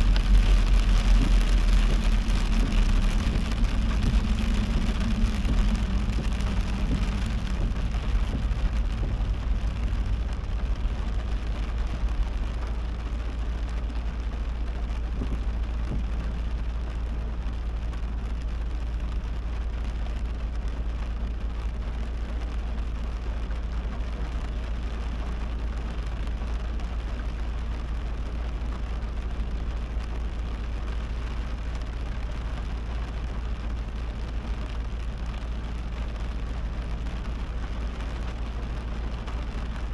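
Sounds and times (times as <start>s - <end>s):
heavy rain on a car: 0.0s - 39.9s
low rumble of car driving: 0.0s - 39.9s.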